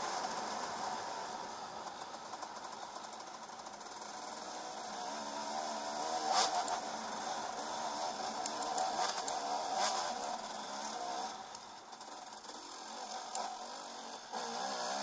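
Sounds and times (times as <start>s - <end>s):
two-stroke engine revving: 2.6s - 15.0s.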